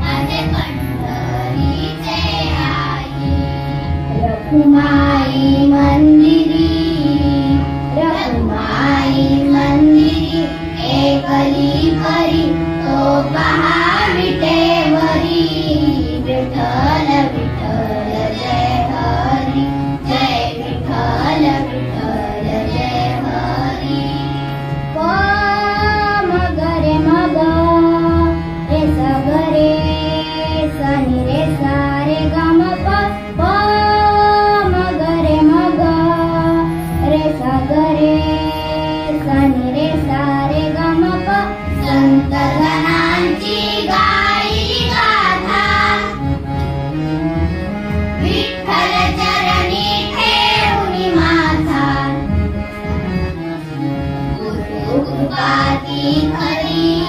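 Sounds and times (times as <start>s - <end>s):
children singing in chorus: 0.0s - 46.3s, 48.2s - 52.4s, 54.6s - 57.0s
harmonium: 0.0s - 57.0s.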